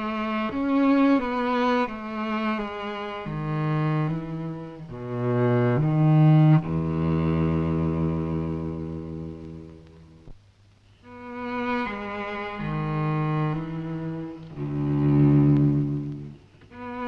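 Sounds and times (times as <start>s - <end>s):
bowed cello: 0.0s - 10.4s, 11.0s - 17.0s.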